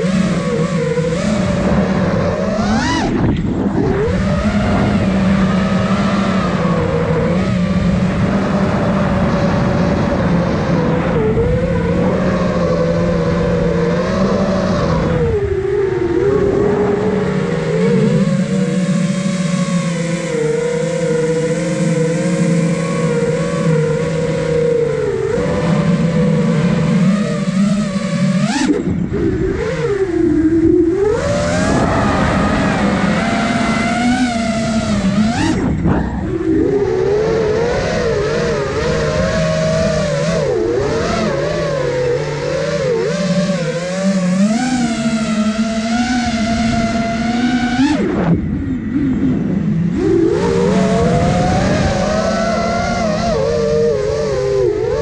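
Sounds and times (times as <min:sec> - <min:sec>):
drone motors whining: 0:00.0 - 0:55.0
wind noise: 0:00.0 - 0:55.0.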